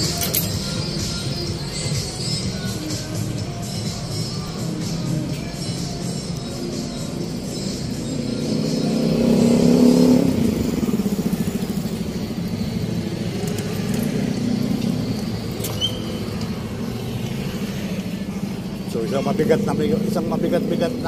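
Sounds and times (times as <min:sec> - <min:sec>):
passing vehicle engines: 0:00.0 - 0:21.0.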